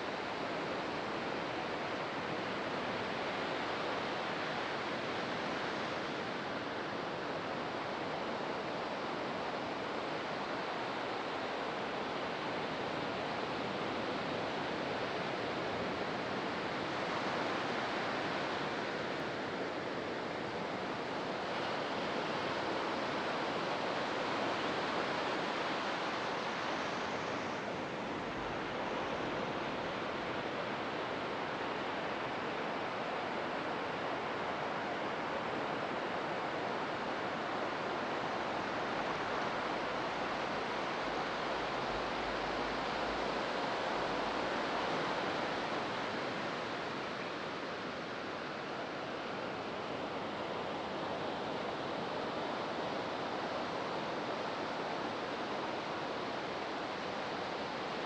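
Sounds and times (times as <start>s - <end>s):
ocean waves breaking on beach: 5.8s - 58.0s.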